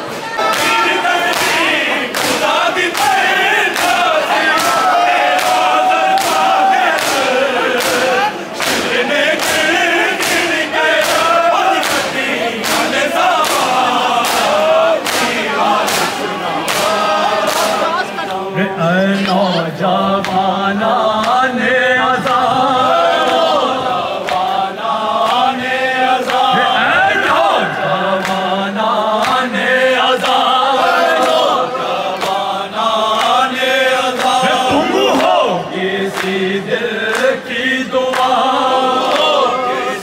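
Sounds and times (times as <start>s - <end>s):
men chanting in unison: 0.4s - 40.0s.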